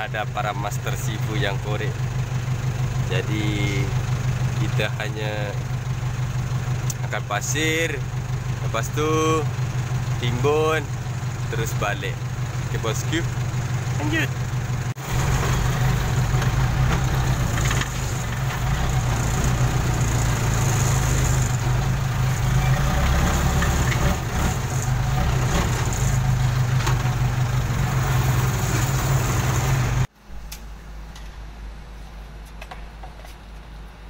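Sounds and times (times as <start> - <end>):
diesel engine running: 0.0 - 30.5
low engine hum: 0.0 - 34.0.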